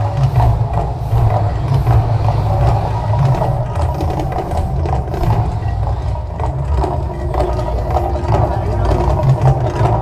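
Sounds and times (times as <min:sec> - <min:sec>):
deep uneven rumble: 0:00.0 - 0:10.0
drumming: 0:00.0 - 0:10.0.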